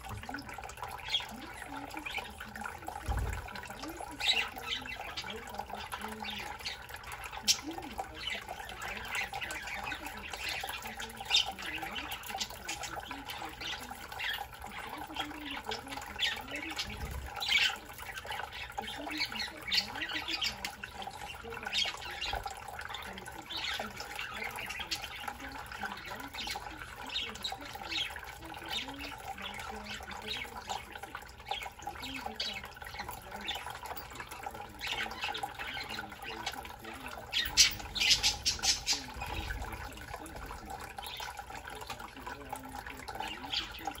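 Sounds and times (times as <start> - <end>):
budgerigars chattering and chirping: 0.0 - 44.0.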